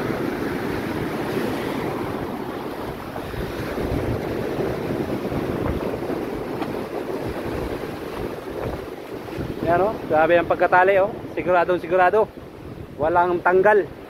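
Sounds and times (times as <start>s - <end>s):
storm surf breaking on beach: 0.0s - 14.0s
wind buffeting microphone: 0.0s - 14.0s.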